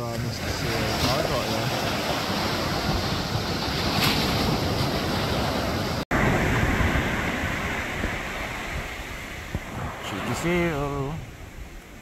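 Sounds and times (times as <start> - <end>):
surf washing on shore: 0.0 - 12.0
wind buffeting microphone: 0.0 - 12.0.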